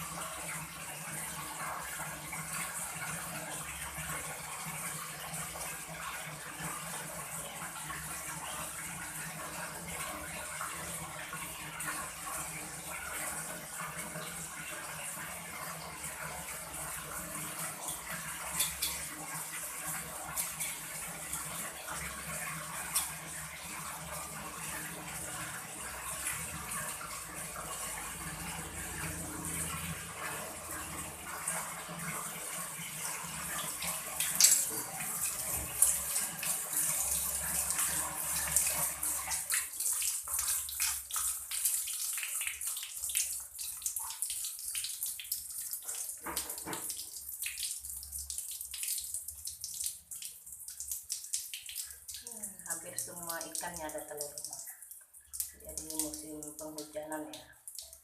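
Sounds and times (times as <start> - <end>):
running water splashing in a basin: 0.0 - 58.0.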